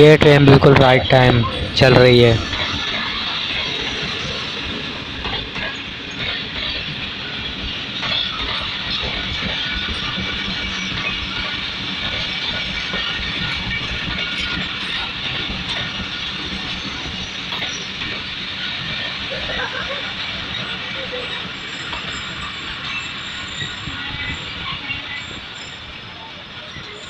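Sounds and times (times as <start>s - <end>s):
train wheels rumbling on rails: 0.0s - 27.0s
wheels clicking over rail joints: 0.4s - 27.0s.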